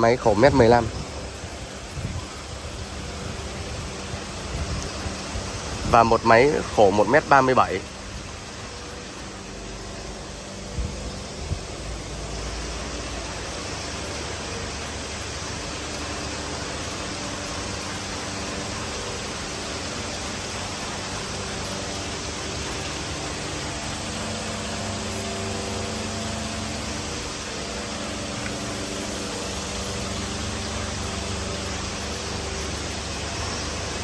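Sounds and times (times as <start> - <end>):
mechanical noise with low hum: 0.0 - 34.0.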